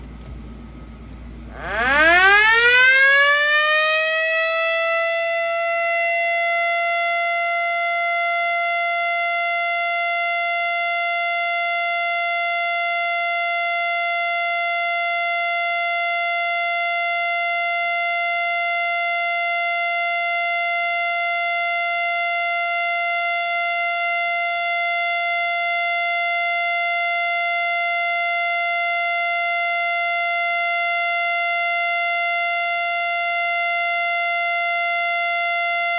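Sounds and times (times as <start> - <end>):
siren wailing: 1.5 - 12.8, 18.4 - 35.9.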